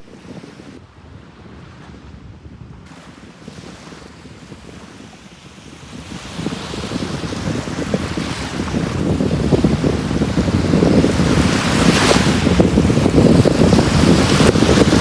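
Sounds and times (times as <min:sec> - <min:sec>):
ocean waves breaking: 0:00.0 - 0:00.8, 0:02.9 - 0:15.0
wind buffeting microphone: 0:00.0 - 0:15.0.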